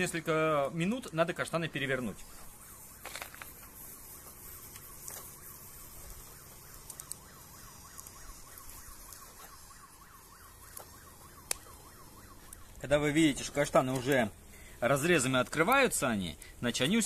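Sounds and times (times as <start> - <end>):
faint siren yelping: 0.0 - 17.0.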